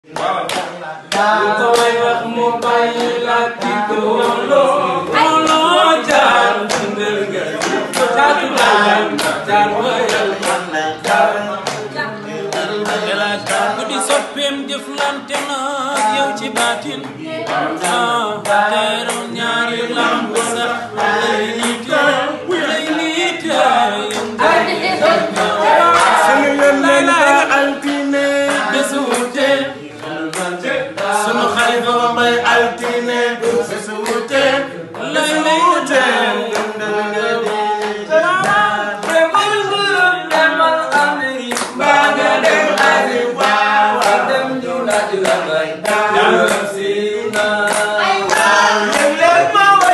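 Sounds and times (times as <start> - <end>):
group singing: 0.0 - 49.9
man leading singing: 0.0 - 49.9
hand claps: 0.1 - 49.9.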